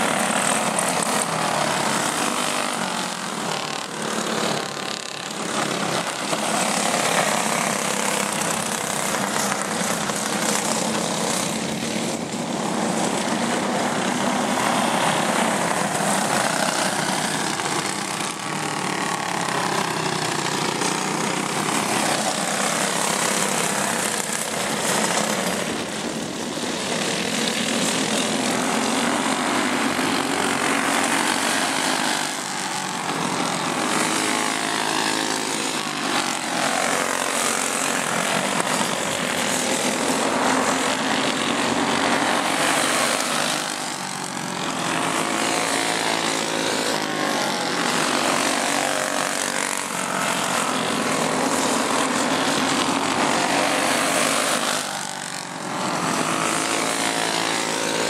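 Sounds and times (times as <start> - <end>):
go-kart engines racing: 0.0 - 58.0.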